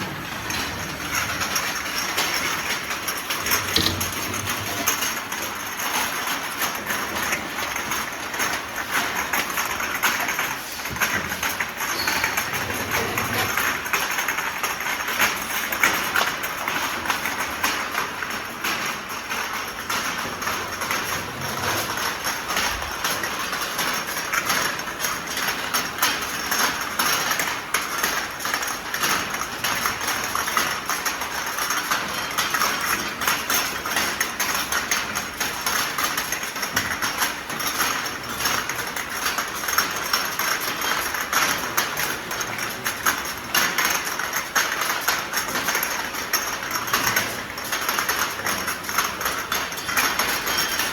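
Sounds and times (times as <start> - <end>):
washing machine running: 0.0 - 50.9.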